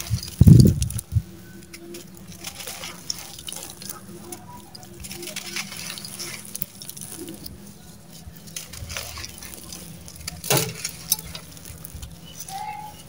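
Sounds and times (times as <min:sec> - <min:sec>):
grit trickling: 0:00.0 - 0:13.0
sand-cement chunks crushed by hand: 0:00.0 - 0:13.0.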